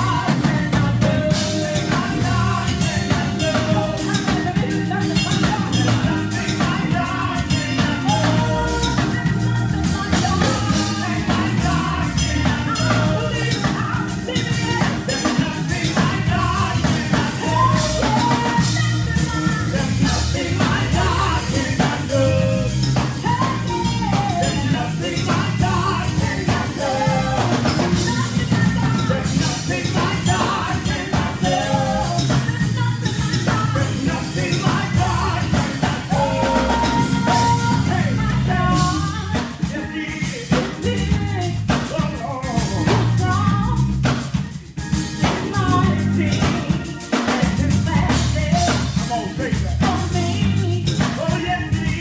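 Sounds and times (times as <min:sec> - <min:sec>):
drum kit and bass beat: 0:00.0 - 0:52.0
people singing: 0:00.0 - 0:52.0.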